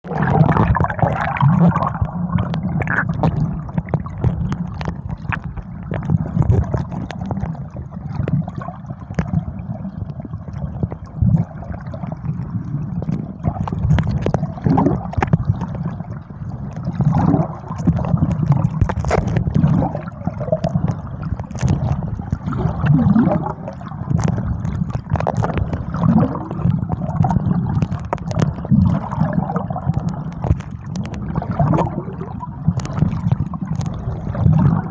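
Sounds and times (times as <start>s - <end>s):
small crackles: 0.0s - 34.9s
underwater gurgling and sloshing: 0.0s - 34.9s.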